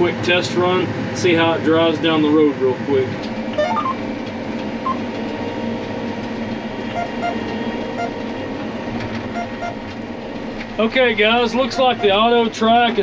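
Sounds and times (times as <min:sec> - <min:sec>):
engine and drive rumble: 0:00.0 - 0:13.0
faint constant whine: 0:00.0 - 0:13.0.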